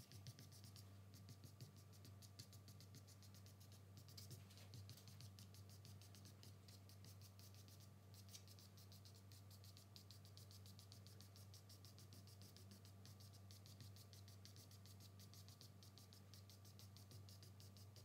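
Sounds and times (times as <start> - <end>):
charcoal scratching on paper: 0.0 - 18.0
low steady hum: 0.0 - 18.0.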